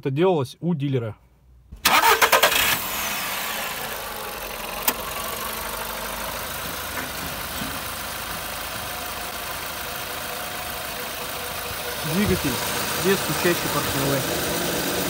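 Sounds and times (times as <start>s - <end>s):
car engine starting and idling: 1.7s - 15.0s.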